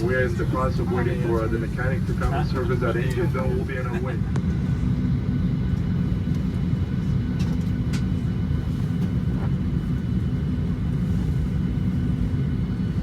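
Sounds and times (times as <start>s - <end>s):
cabin air ventilation hum: 0.0s - 13.0s.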